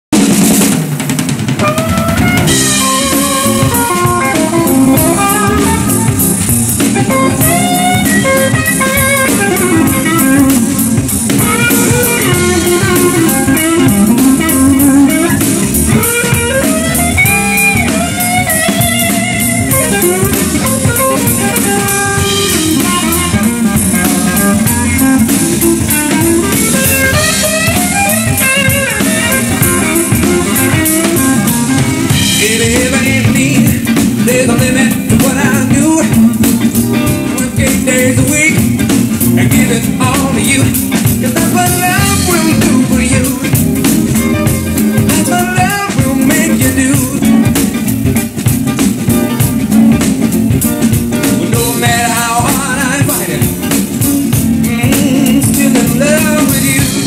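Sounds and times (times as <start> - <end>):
blues band playing: 0.1 - 57.0
lead electric guitar: 0.2 - 57.0.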